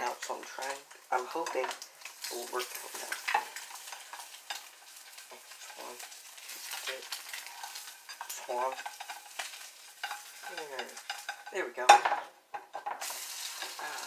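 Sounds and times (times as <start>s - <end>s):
egg sizzling in a frying pan: 0.0s - 14.0s
spatula scraping a pan: 0.0s - 14.0s.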